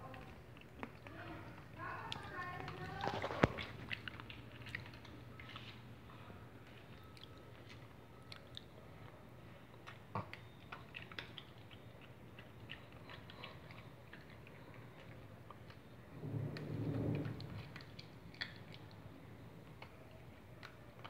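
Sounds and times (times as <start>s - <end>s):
dog crunching dry spaghetti: 0.0s - 5.9s, 6.6s - 21.0s.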